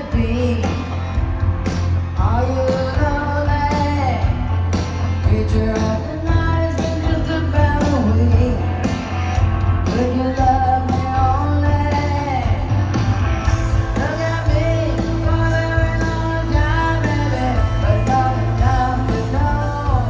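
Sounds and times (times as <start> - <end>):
woman singing: 0.0 - 1.2, 2.2 - 4.5, 5.2 - 8.8, 9.8 - 12.7, 13.9 - 20.0
guitar: 0.0 - 20.0
steady bass: 0.0 - 20.0.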